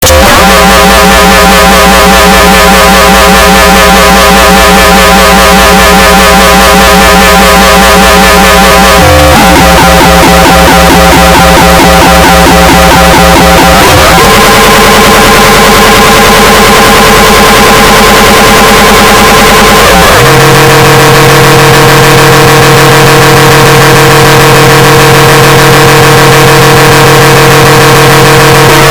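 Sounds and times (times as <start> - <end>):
loud distorted wavering scream: 0.0 - 28.9.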